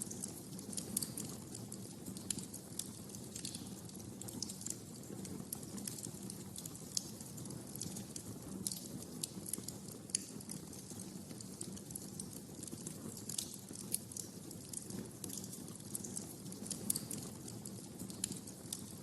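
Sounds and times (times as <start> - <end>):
fire popping and snapping: 0.0 - 19.0.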